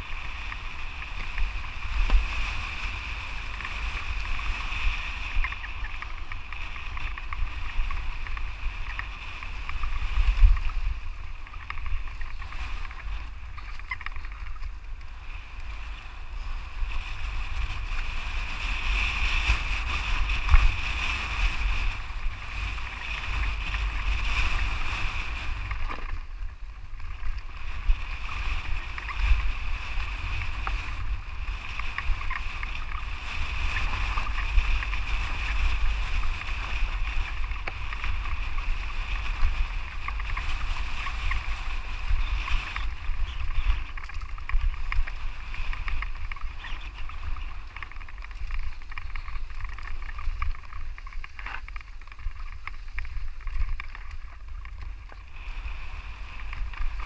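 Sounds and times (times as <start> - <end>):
bike tyres on rocky dirt: 0.0 - 57.0
wind rumble on microphone: 0.0 - 57.0.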